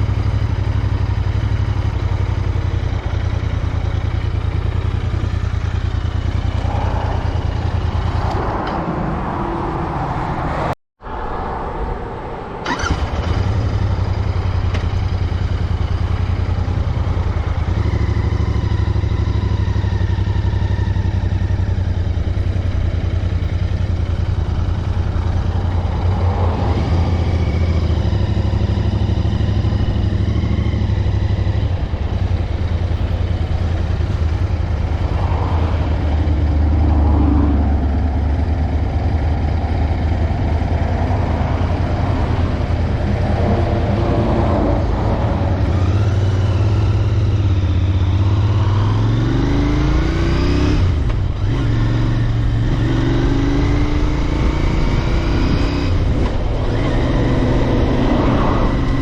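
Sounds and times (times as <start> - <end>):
motorcycle engine running: 0.0 - 8.7, 12.7 - 59.0.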